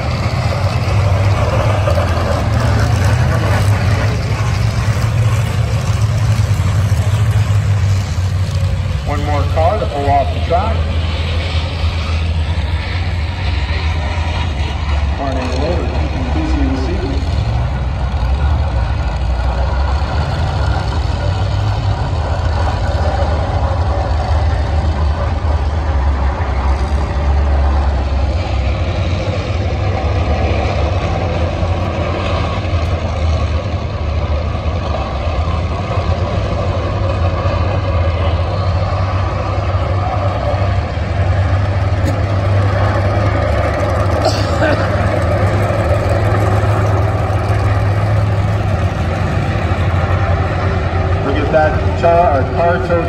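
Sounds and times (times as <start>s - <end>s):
race car engines rumbling: 0.0s - 53.0s.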